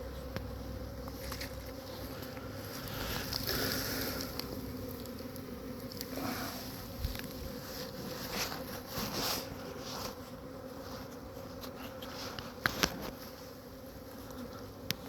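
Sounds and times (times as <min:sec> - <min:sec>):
bee swarm buzzing: 0:00.0 - 0:15.0.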